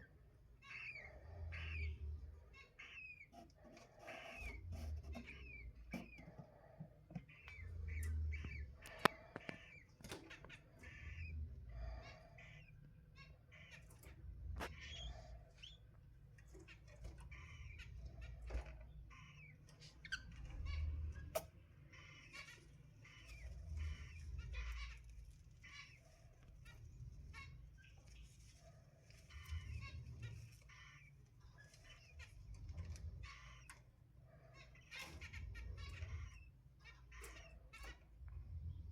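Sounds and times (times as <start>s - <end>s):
cockatiels chirping: 0.0s - 38.9s.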